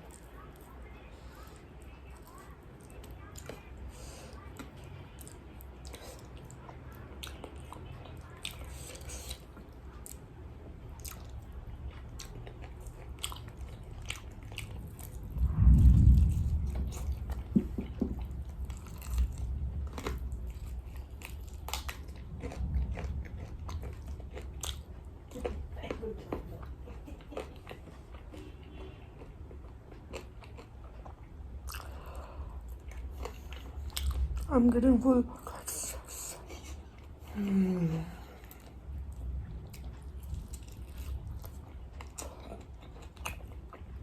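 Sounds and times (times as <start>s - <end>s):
crunchy chewing: 0.0s - 34.5s, 38.2s - 44.0s.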